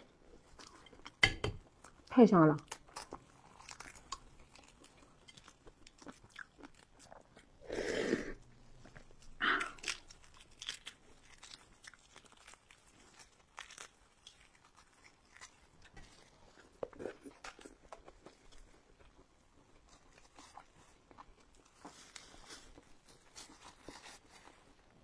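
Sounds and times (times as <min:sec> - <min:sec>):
crunching and chewing food: 0:00.0 - 0:25.0.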